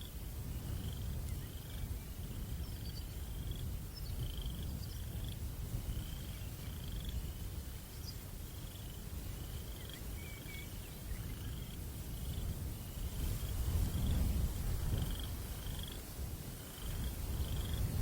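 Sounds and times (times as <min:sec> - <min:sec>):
crickets chirping: 0:00.0 - 0:18.0
low wind rumble: 0:00.0 - 0:18.0.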